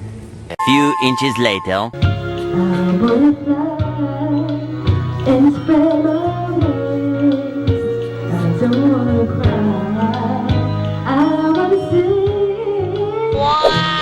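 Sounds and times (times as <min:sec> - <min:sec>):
pop song with singer: 0:00.7 - 0:14.0.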